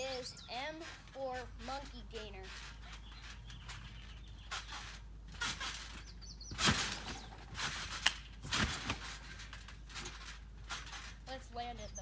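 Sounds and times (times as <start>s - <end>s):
feet bouncing on trampoline: 0.1s - 12.0s.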